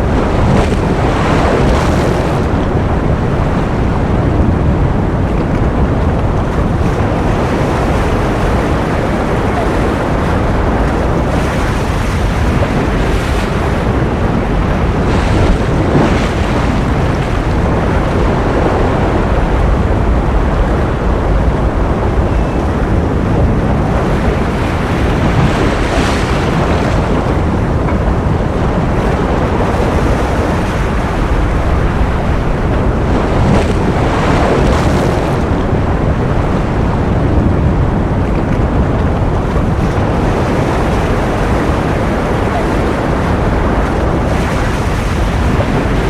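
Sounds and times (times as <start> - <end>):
ocean surf rushing: 0.0 - 46.0.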